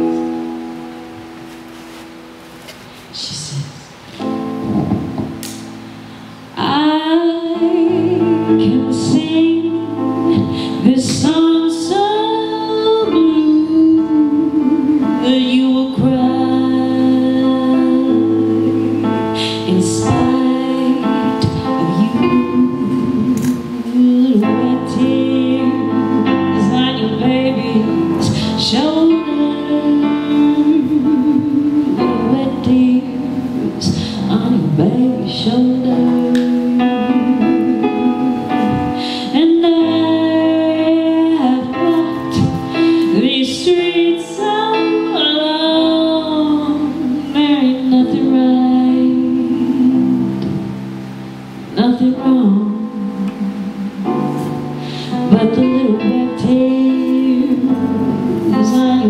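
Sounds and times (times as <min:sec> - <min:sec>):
piano accompaniment: 0:00.0 - 0:59.0
woman singing slow song: 0:03.0 - 0:59.0.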